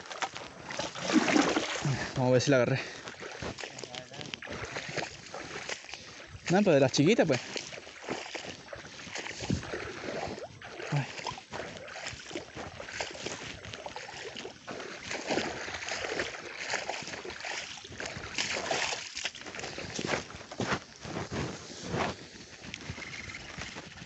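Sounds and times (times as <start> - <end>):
footsteps squelching through mud: 0.0 - 24.0.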